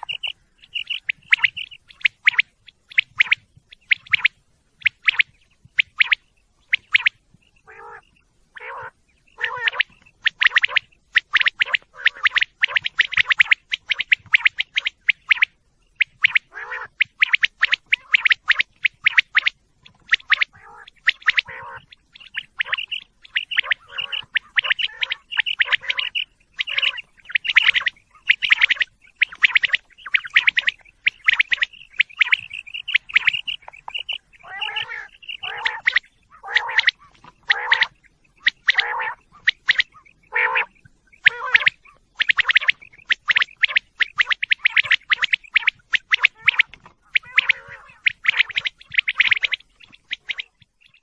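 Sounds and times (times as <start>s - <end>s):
quail clicking calls: 0.0s - 51.0s.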